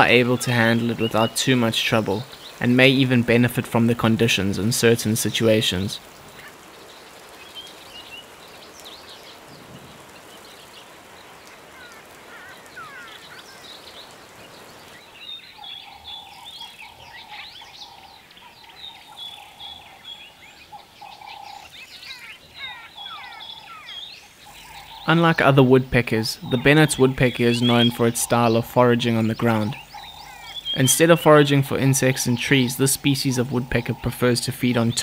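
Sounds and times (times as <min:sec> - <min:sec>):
birds chirping and whistling: 0:00.0 - 0:03.0, 0:06.7 - 0:35.0
background hiss: 0:00.0 - 0:35.0.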